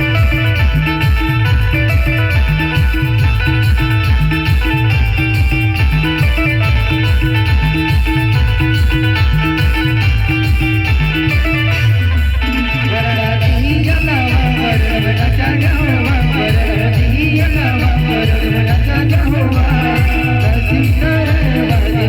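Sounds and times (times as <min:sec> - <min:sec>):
bass and drum beat: 0:00.0 - 0:22.0
plucked guitar-like melody: 0:00.0 - 0:22.0.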